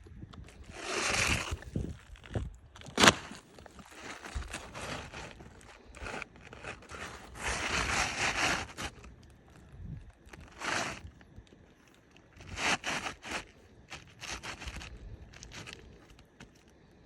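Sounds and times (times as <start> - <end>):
roof shingles scraping and crackling: 0.4 - 16.8.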